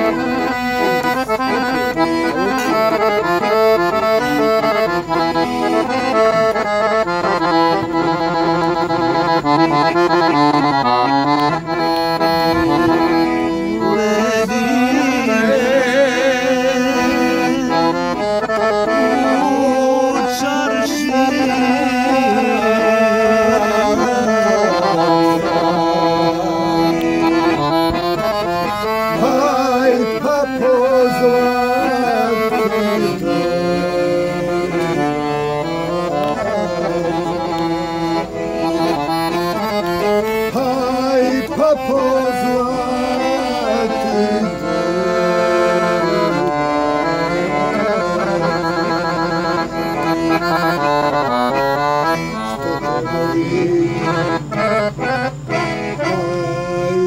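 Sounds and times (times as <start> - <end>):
accordion playing a tune: 0.0 - 57.0.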